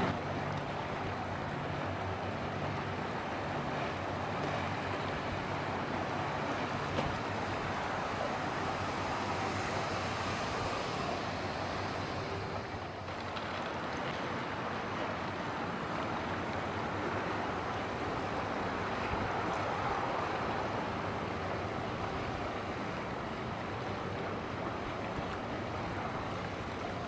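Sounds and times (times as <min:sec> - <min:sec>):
low engine drone: 0:00.0 - 0:27.0
wind: 0:00.0 - 0:27.0.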